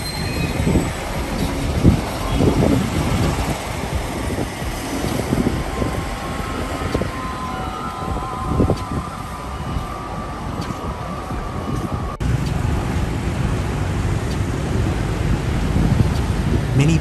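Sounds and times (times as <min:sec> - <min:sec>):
faint whine: 0:00.0 - 0:17.0
large vehicle rumbling: 0:00.0 - 0:17.0.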